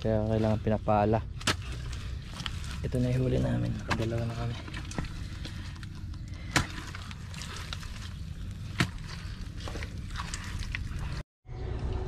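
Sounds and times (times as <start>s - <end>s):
low steady rumble: 0.0s - 12.0s
squelches in wet mud: 0.1s - 11.2s.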